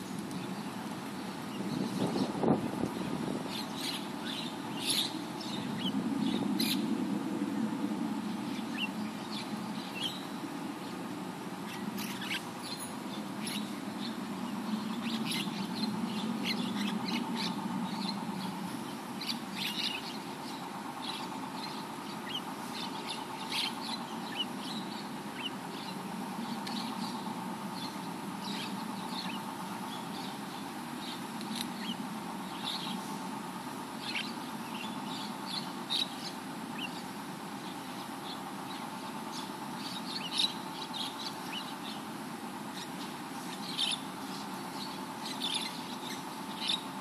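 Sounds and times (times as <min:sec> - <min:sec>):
birds chirping and chattering: 0:00.0 - 0:47.0
steady low hum: 0:00.0 - 0:47.0.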